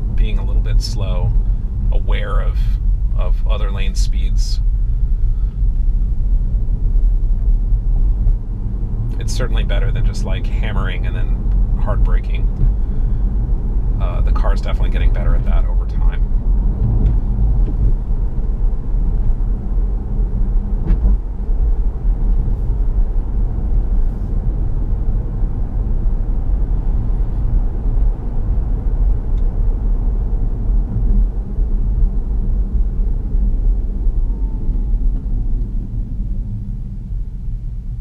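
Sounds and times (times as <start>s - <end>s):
tyre and road rumble: 0.0s - 38.0s.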